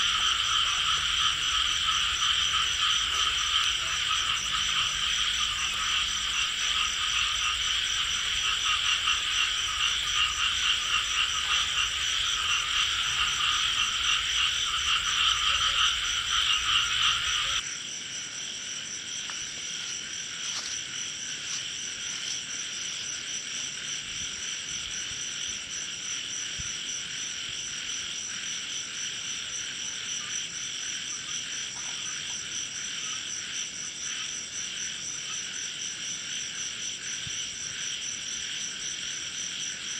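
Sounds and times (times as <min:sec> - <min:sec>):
frogs croaking chorus: 0:00.0 - 0:39.9.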